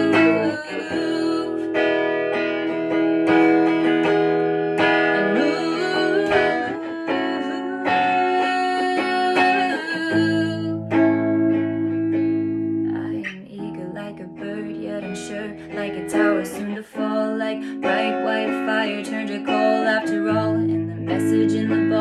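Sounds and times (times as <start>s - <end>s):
plucked guitar folk melody: 0.0s - 22.0s.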